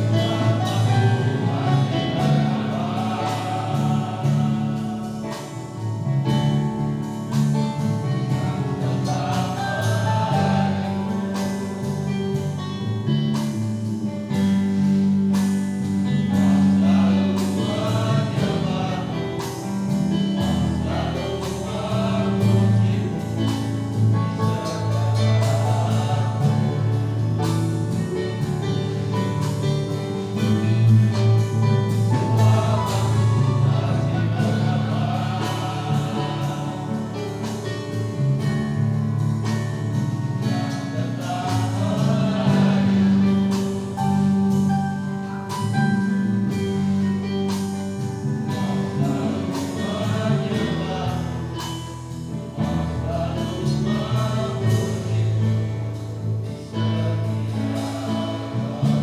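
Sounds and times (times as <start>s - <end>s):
band accompaniment with drum beat: 0.0s - 59.0s
men's choir singing in harmony: 0.0s - 59.0s.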